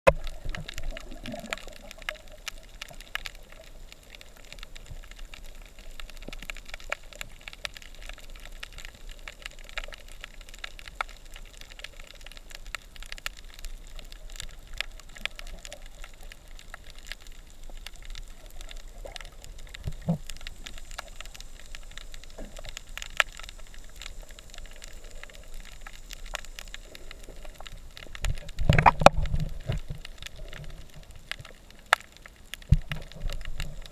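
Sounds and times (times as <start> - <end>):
low water hiss: 0.1 - 33.9
underwater reef crackling clicks: 0.1 - 33.9.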